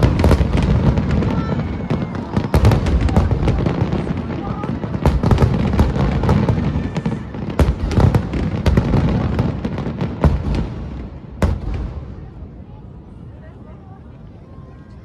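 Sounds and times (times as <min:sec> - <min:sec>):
fireworks bursting with crackles: 0:00.0 - 0:12.7.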